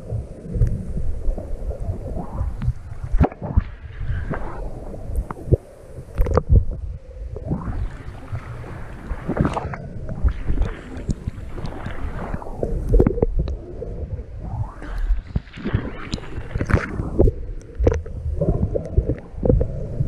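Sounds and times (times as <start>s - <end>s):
muffled underwater water swishing: 0.0s - 20.0s.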